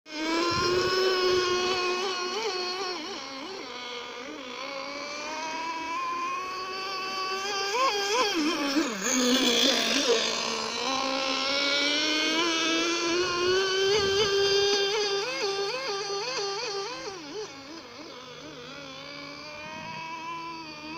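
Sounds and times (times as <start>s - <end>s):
model boat engine whining: 0.1s - 20.9s.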